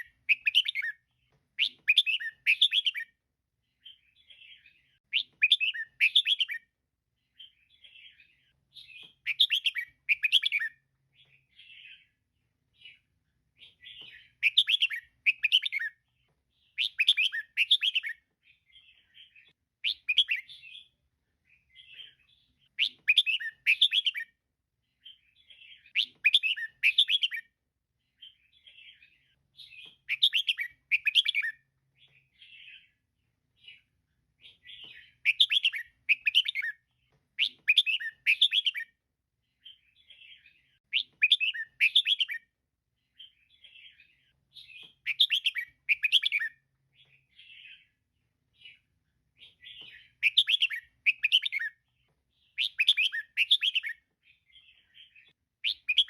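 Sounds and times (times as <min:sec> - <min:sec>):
bird chirping: 0:00.0 - 0:56.0
soft bird chirps: 0:00.0 - 0:56.0.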